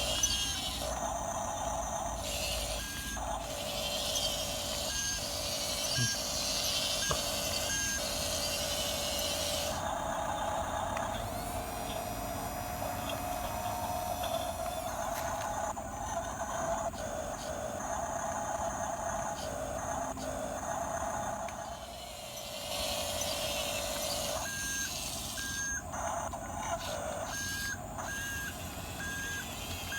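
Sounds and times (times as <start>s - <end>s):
small electric motors whining: 0.0s - 29.9s.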